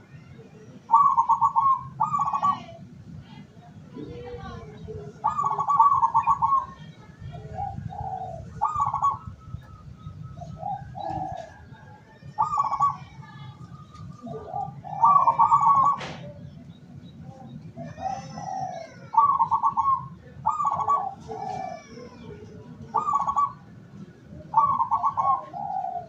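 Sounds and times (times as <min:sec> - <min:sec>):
small birds chirping: 0:00.0 - 0:26.0
doves cooing: 0:00.8 - 0:26.0.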